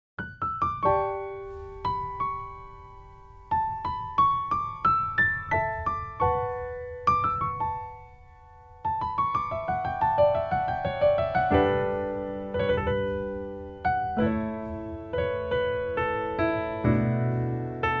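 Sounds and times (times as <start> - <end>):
piano music: 0.2 - 18.0.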